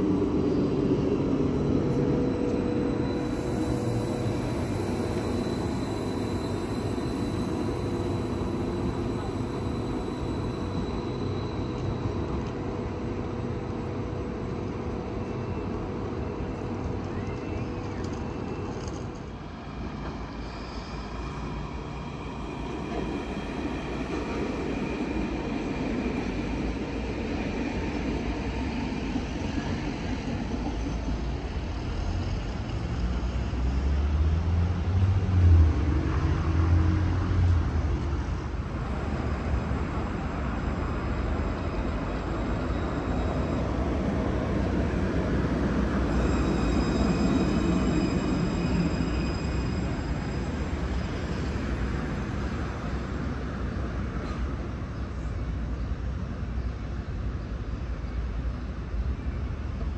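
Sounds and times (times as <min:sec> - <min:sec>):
tram rumbling on rails: 0:00.0 - 0:59.9.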